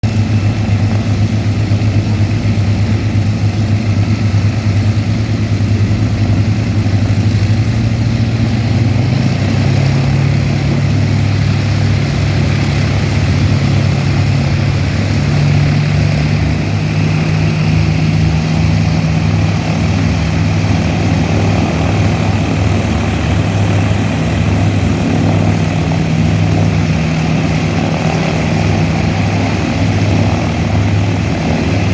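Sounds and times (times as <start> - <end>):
propeller plane piston engine: 0.0 - 31.9.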